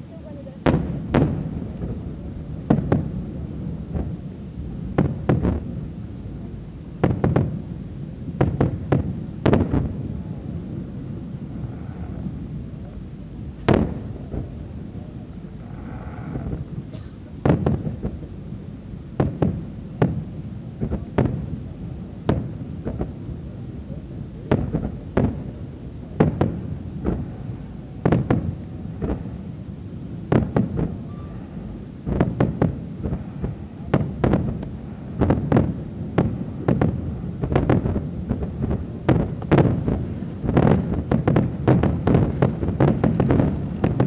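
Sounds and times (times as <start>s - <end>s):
fireworks booming: 0.0s - 44.0s
low rumble: 0.0s - 44.0s.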